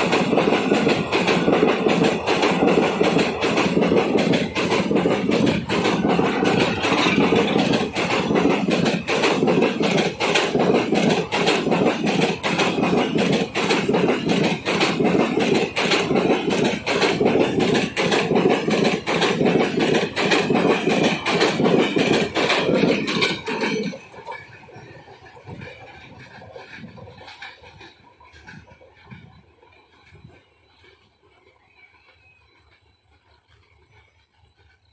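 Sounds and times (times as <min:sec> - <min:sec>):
clicks from train wheels: 0:00.0 - 0:34.9
train wheels rumbling on rails: 0:00.0 - 0:34.9.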